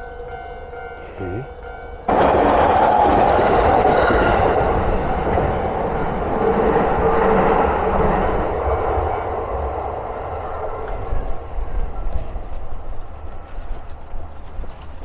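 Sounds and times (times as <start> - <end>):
electric train passing: 0.0 - 14.3.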